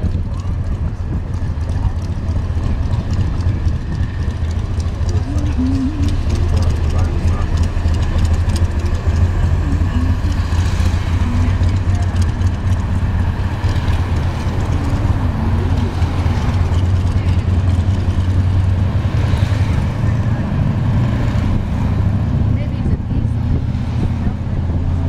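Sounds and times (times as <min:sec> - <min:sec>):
car engine and road hum: 0:00.0 - 0:25.0.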